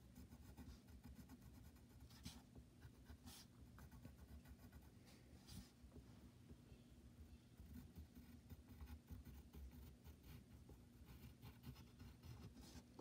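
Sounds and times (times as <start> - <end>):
pencil scratching on paper: 0.0 - 5.7, 7.6 - 13.0
low steady hum: 0.0 - 13.0.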